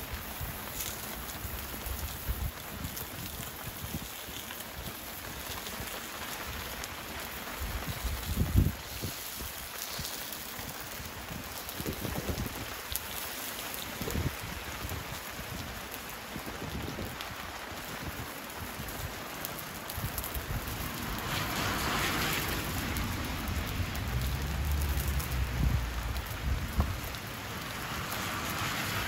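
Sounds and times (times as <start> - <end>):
fire popping: 0.0 - 29.0
rain hissing: 0.0 - 29.0
sausages sizzling in a pan: 0.0 - 29.0.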